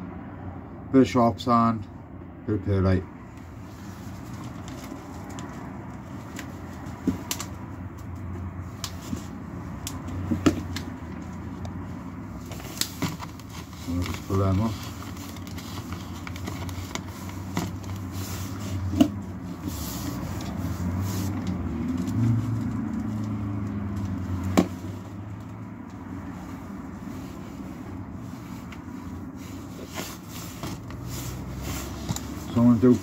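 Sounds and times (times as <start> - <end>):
cups and compost handling: 2.9 - 33.0.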